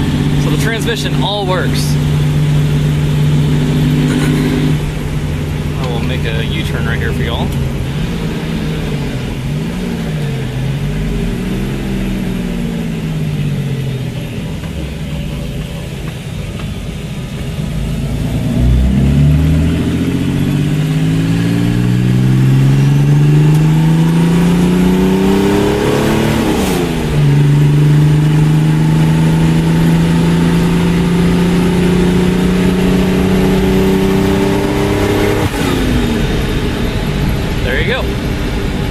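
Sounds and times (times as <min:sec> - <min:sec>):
diesel car engine accelerating: 0:00.0 - 0:38.9.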